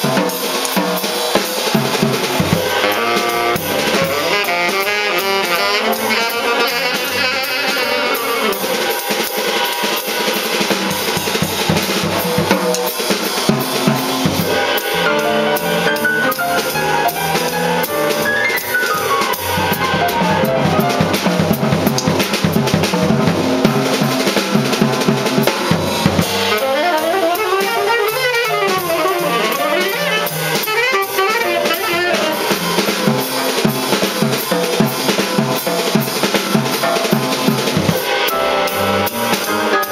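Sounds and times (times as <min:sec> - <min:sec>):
drum kit playing: 0:00.0 - 0:39.9
jazz band playing: 0:00.0 - 0:39.9.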